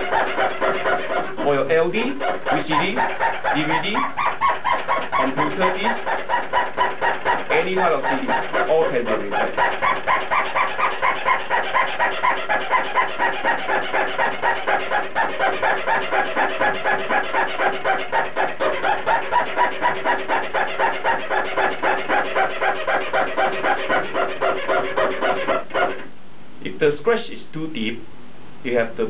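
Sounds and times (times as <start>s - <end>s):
cotton pad squeaking on disc: 0.0s - 26.1s.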